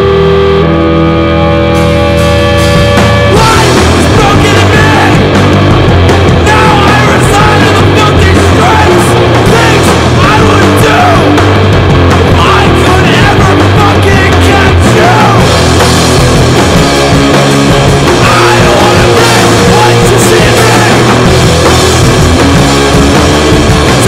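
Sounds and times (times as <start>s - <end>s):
distorted guitar chord: 0.0s - 24.0s
punk rock band playing: 0.0s - 24.0s
yelled vocals: 0.0s - 24.0s.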